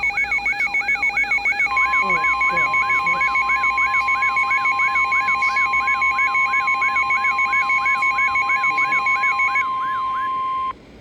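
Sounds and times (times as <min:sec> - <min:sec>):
fast pulsing beep: 0:00.0 - 0:10.7
rising and falling alarm chirp: 0:00.0 - 0:10.7
steady high warning tone: 0:00.0 - 0:10.8.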